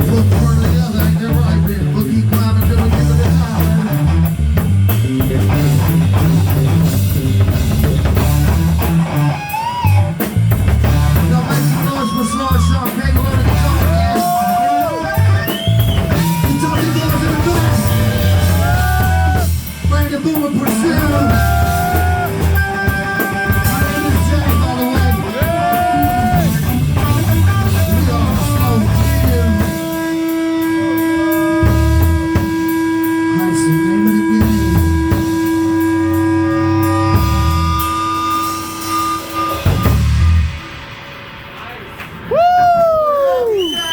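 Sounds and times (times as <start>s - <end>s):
electric guitar lead: 0.0s - 41.5s
drum kit and bass pounding: 0.0s - 43.9s.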